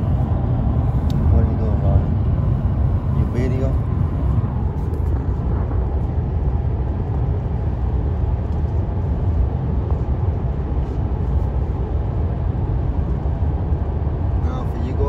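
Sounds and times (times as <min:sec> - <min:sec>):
road and tyre noise in car: 0:00.0 - 0:15.0.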